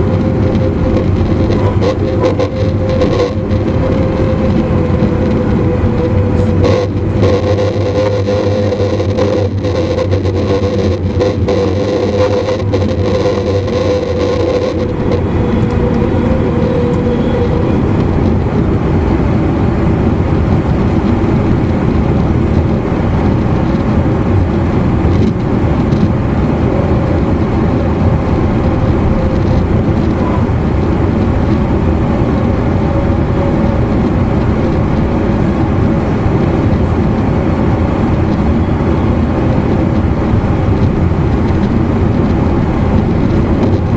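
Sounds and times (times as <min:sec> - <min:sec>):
mid-pitched motor tone: 0:00.0 - 0:43.9
traction motor hum: 0:00.0 - 0:43.9
train wheels rumbling on rail: 0:00.0 - 0:43.9.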